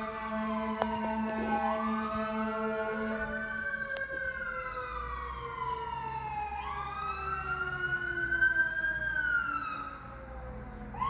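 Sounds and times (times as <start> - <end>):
fire siren wailing: 0.0 - 11.0.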